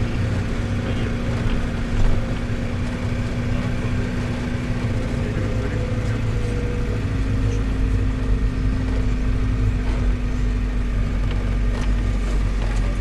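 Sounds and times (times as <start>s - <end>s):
engine humming: 0.0s - 13.0s
low road rumble: 0.0s - 13.0s.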